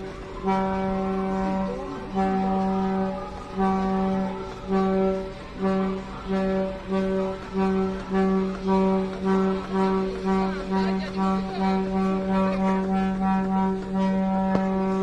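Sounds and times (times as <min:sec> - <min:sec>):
ship's horn short blasts: 0:00.1 - 0:15.0.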